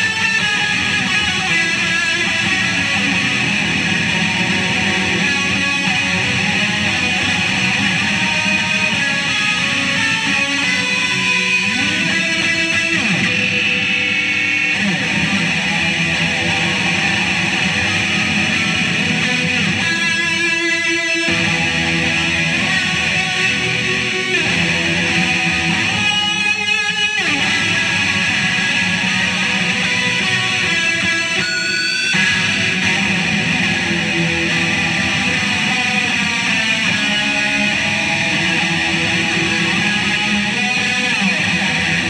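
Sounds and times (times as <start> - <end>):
electric guitar through amplifier: 0.0 - 42.0.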